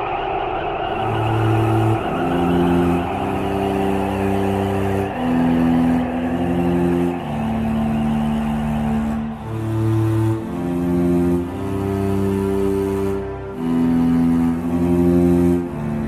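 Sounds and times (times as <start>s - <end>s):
slow bowed string music: 0.9s - 16.0s.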